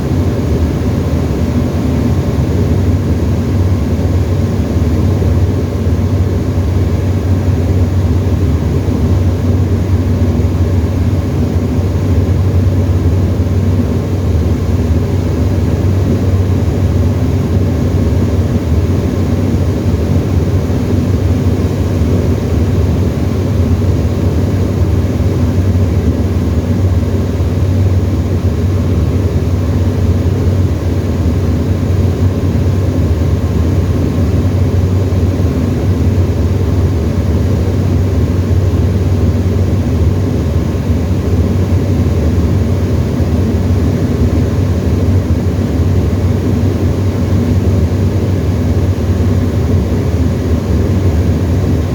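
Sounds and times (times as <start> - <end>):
aeroplane engine and propeller droning: 0.0 - 51.9.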